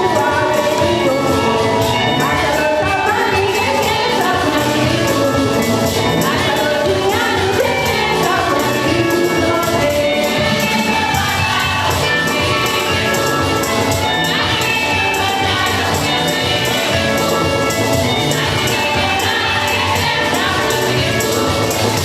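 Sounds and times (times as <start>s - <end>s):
choir singing a hymn: 0.0s - 22.0s
percussion beat: 0.0s - 22.0s.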